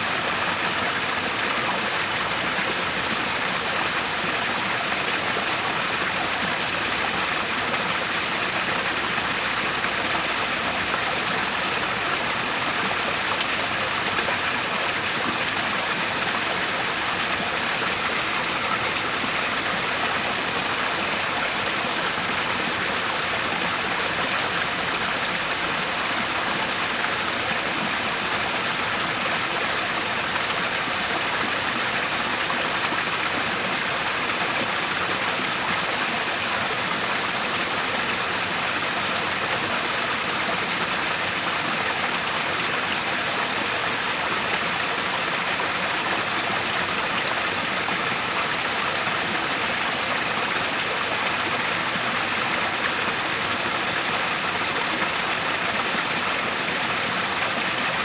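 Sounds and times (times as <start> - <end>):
waterfall and rushing stream: 0.0 - 58.0.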